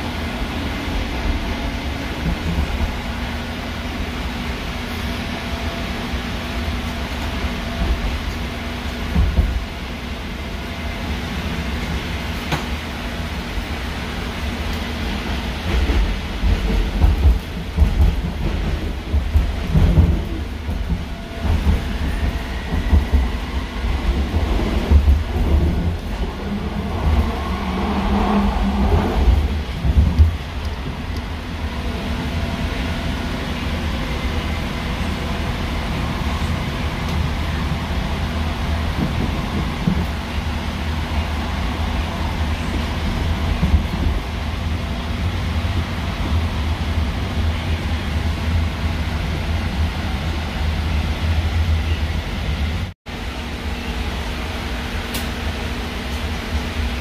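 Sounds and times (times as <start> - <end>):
train car rumble: 0.0 - 57.0.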